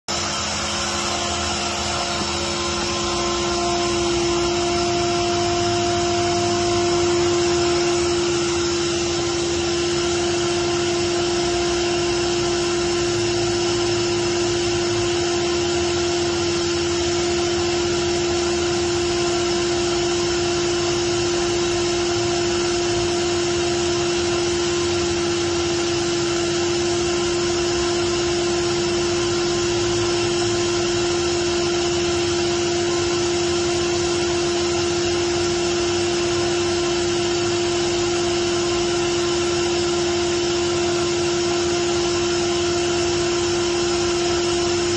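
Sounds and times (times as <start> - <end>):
air compressor whirring: 0.0 - 44.9.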